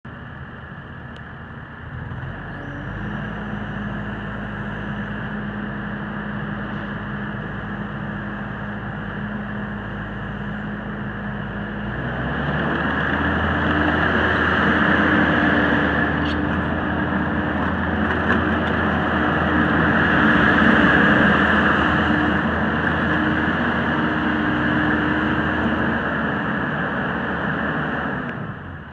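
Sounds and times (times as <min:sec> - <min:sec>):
diesel engine revving: 0:00.1 - 0:28.9.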